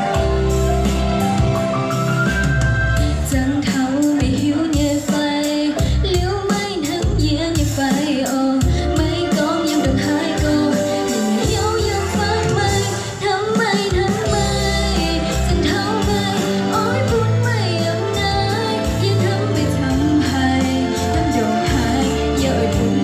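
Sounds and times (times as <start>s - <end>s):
electronic backing with beat: 0.0s - 23.0s
woman singing into microphone: 3.0s - 23.0s.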